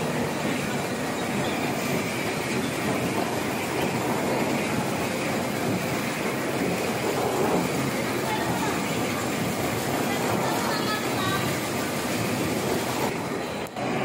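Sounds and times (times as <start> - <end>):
washing machinery rumbling clatter: 0.0 - 14.0.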